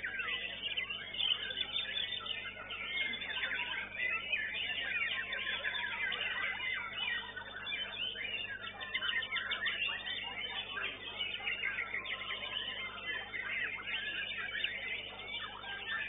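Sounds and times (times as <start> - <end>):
birds singing quick whistles and trills: 0.0 - 16.0.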